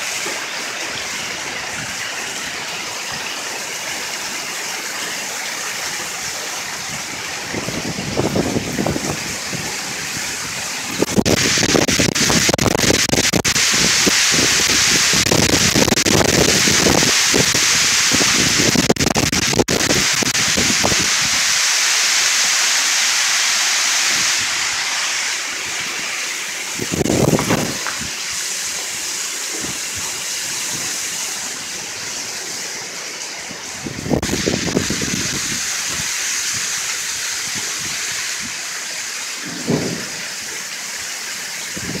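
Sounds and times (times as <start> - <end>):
hail falling on pavement: 0.0 - 32.7, 34.0 - 42.0.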